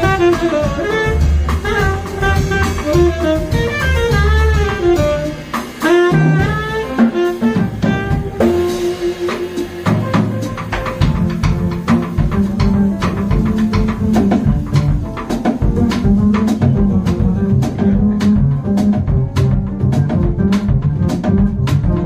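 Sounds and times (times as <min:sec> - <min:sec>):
jazz music with bass and drums: 0:00.0 - 0:22.0.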